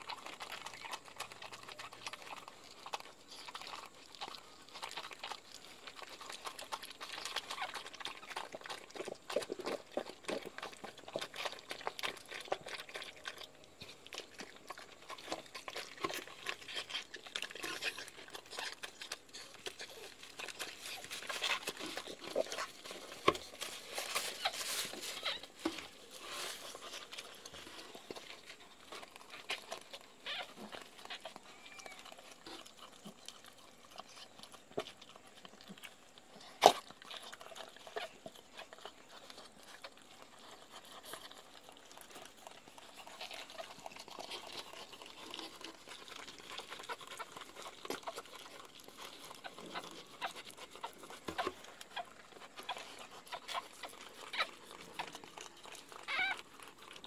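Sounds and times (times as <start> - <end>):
dog licking puppy: 0.0 - 57.0.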